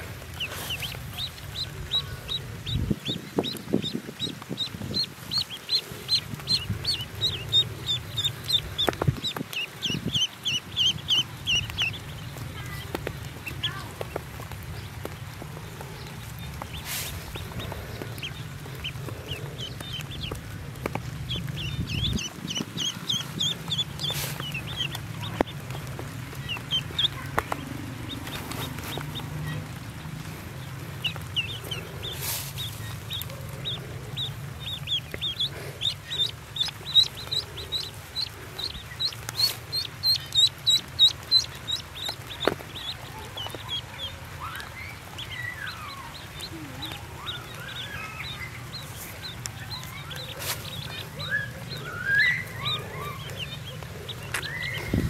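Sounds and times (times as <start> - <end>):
ducklings peeping: 0.0 - 55.0.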